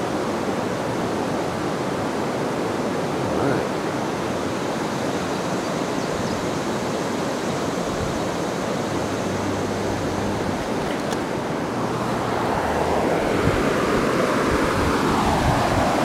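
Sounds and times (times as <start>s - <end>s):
river water rushing over rapids: 0.0s - 16.0s.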